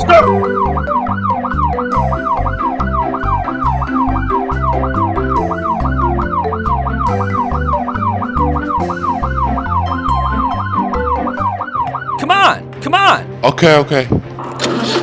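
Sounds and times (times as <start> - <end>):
siren wailing fast: 0.0 - 12.6
background music with beat: 0.0 - 13.4.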